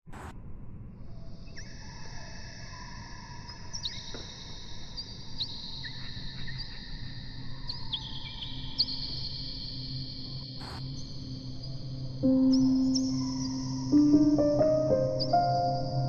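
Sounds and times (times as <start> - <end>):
small birds chirping: 1.4 - 16.0.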